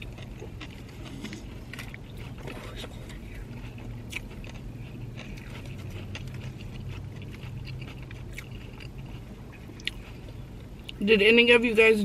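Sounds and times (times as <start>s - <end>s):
chewing crunchy chips: 0.0s - 11.0s
steady low hum: 0.0s - 12.0s.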